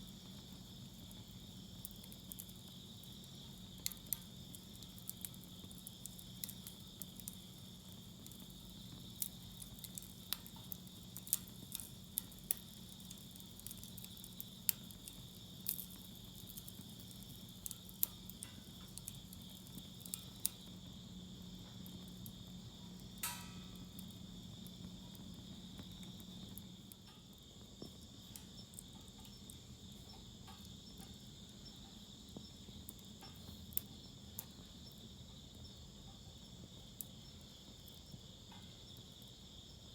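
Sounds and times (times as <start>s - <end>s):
crickets trilling: 0.0s - 39.9s
wood fire crackling and popping: 0.0s - 39.9s.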